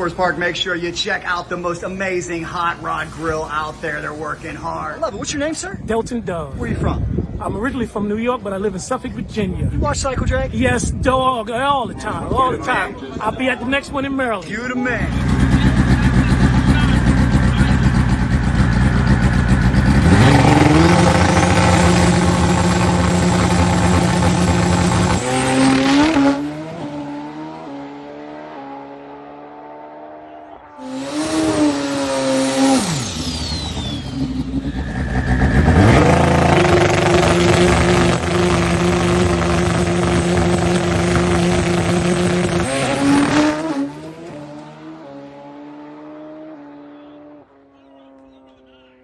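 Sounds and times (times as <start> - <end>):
drag motorcycles at full throttle: 0.0 - 7.4, 14.9 - 49.0.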